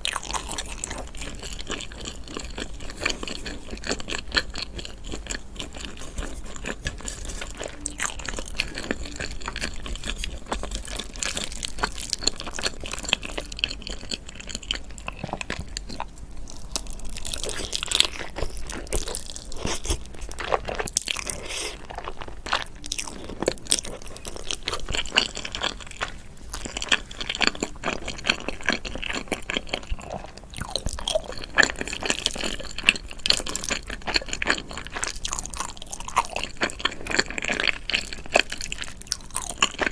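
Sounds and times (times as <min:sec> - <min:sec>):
person crunching and chewing food: 0:00.0 - 0:39.9.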